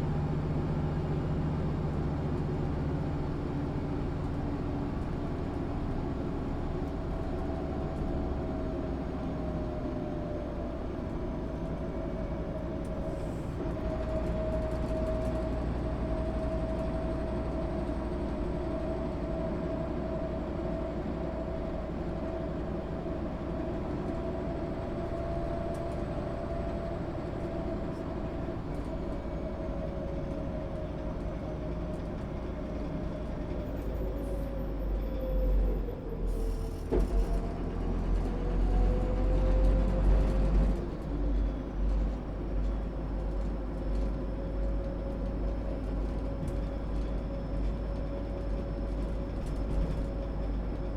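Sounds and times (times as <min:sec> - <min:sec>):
bus engine and road rumble: 0:00.0 - 0:50.9.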